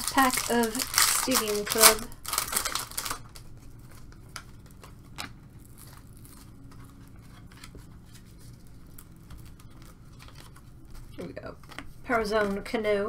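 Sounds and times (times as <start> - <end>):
trading cards being shuffled: 0.0 - 12.7
wrapper crinkling: 0.0 - 12.7.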